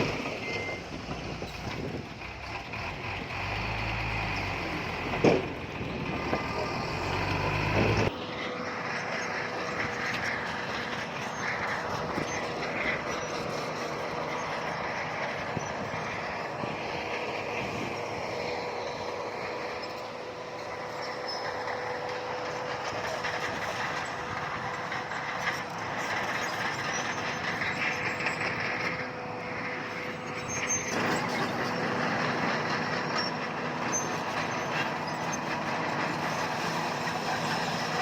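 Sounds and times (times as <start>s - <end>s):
deep diesel engine drone: 0.0s - 38.0s.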